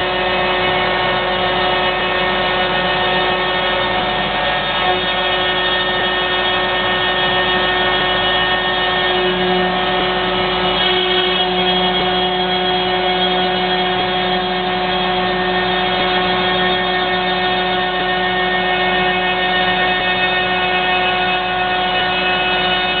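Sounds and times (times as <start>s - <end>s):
router spindle whine: 0.0s - 23.0s.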